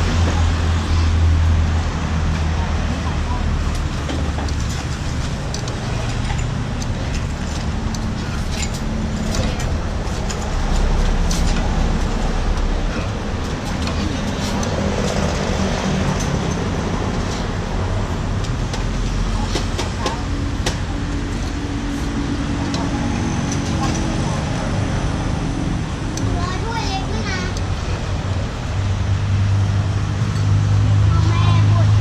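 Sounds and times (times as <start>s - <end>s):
road traffic: 0.0s - 32.0s.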